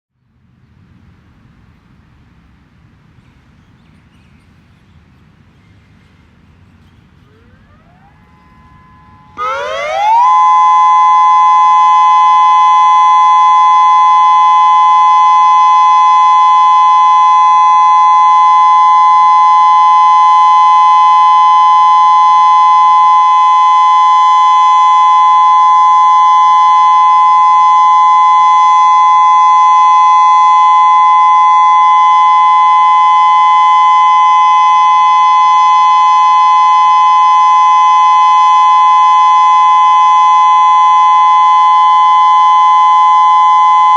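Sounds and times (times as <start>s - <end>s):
outdoor warning siren: 7.2s - 43.9s.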